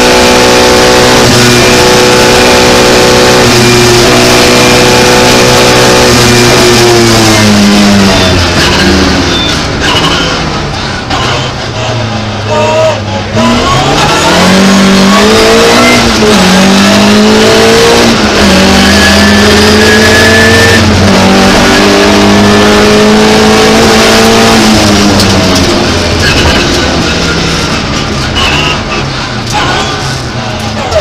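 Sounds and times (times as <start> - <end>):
car engine accelerating hard: 0.0 - 31.0.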